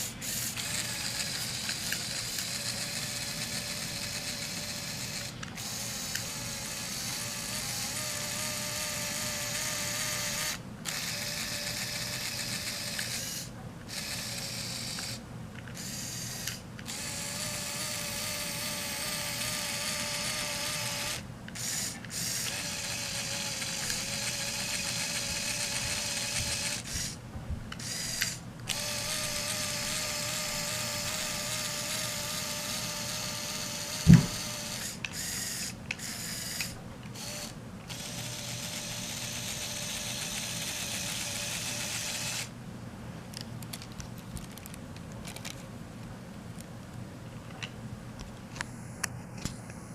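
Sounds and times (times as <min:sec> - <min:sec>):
small electric motor whirring: 0:00.0 - 0:42.5.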